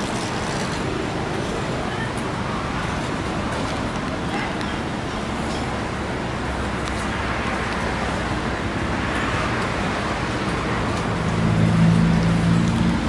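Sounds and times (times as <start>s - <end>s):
engine hum: 0.0s - 13.0s
passing vehicles rushing: 0.0s - 13.0s.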